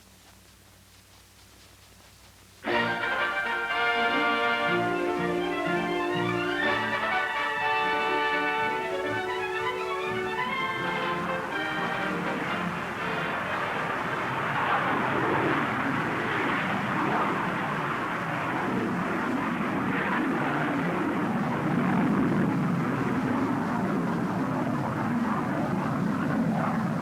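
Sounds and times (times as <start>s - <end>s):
jet engine rushing: 2.6s - 27.0s.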